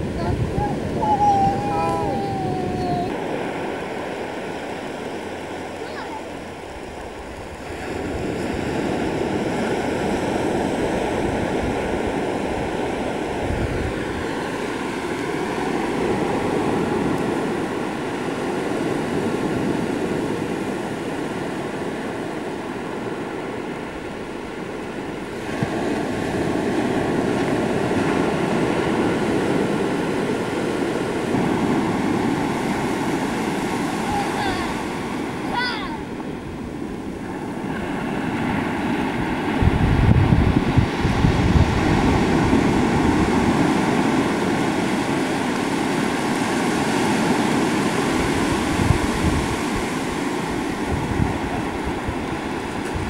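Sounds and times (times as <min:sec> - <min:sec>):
ocean waves breaking: 0:00.0 - 0:53.0.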